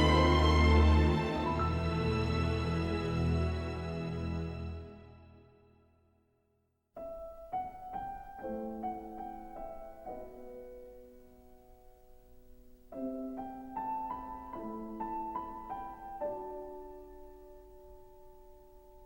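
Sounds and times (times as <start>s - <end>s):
slow piano music: 0.0s - 5.7s, 7.0s - 19.0s.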